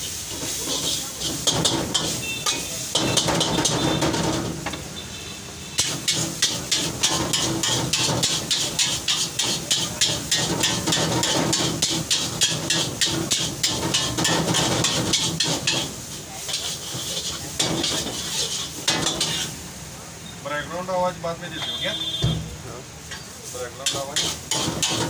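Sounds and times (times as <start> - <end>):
metal utensils clanking on a wok: 0.0 - 4.8, 5.8 - 19.6, 22.3 - 25.0
noodles sizzling: 0.0 - 25.0.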